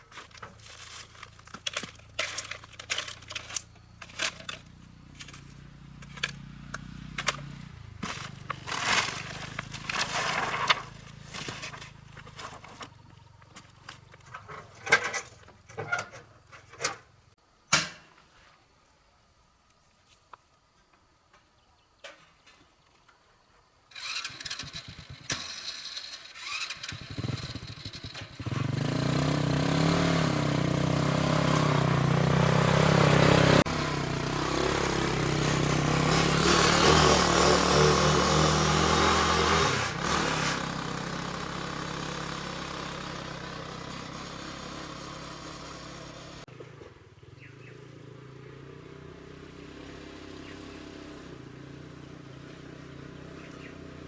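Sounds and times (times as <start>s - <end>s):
motorcycle engine sputtering and revving: 0.2s - 17.2s, 24.0s - 54.0s.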